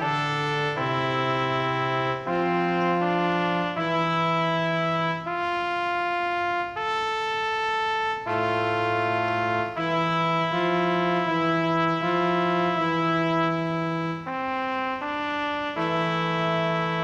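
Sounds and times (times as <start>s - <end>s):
slow brass chords: 0.0s - 17.0s.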